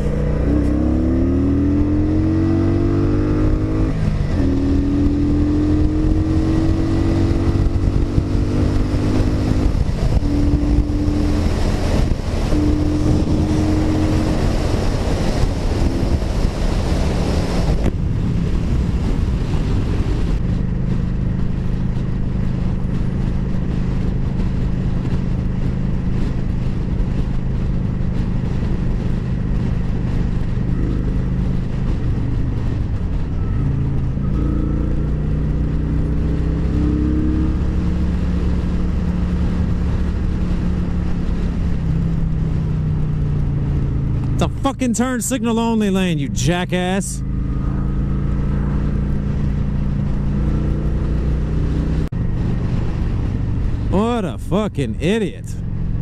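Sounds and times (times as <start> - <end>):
wind rush on microphone: 0.0 - 45.2, 46.0 - 54.9, 55.5 - 56.0
motorcycle engine: 0.0 - 56.0.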